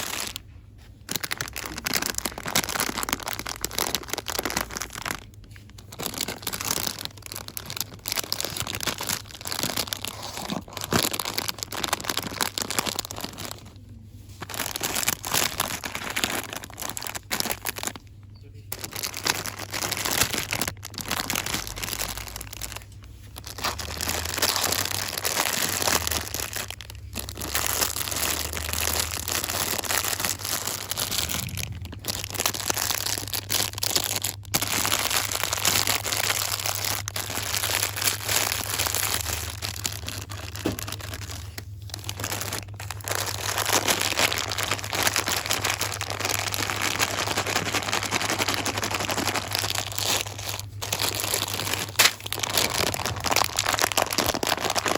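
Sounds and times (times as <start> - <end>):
packaging crinkling and rustling: 0.0 - 54.9.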